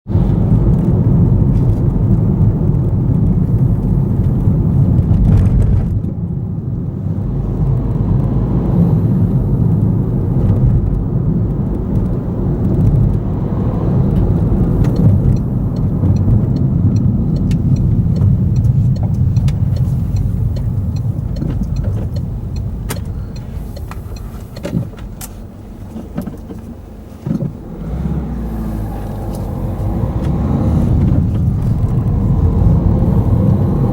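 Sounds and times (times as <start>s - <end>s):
low rumble of cars: 0.0s - 33.9s.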